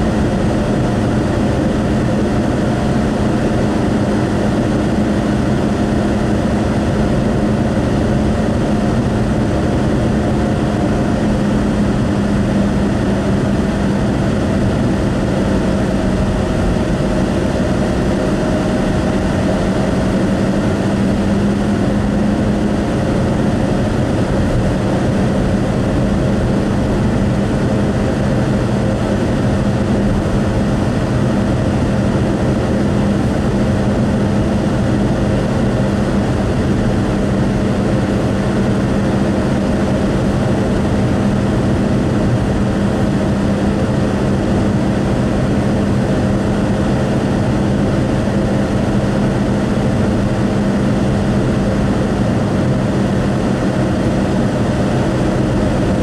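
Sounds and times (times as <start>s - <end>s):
car tyre and engine noise: 0.0s - 56.0s
constant low hum: 0.0s - 56.0s.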